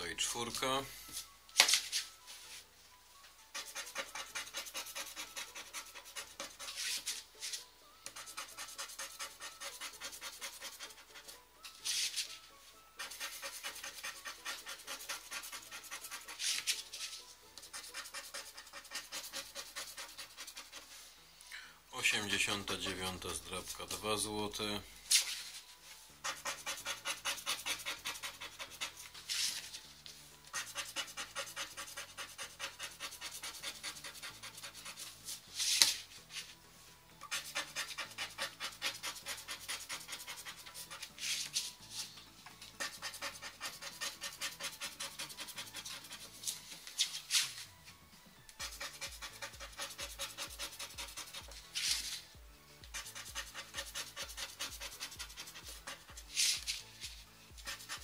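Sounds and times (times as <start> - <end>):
background music: 0.0 - 58.0
scratch cards being scratched: 3.5 - 12.4, 13.0 - 21.1, 25.1 - 36.6, 37.2 - 47.7, 48.5 - 58.0.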